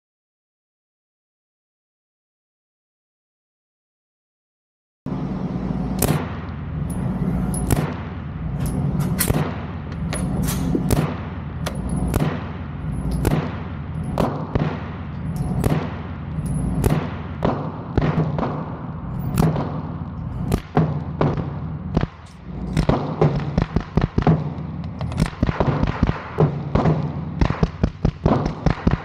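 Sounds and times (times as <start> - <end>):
gunshots echoing indoors: 5.1 - 29.0
steady low hum: 5.1 - 29.0.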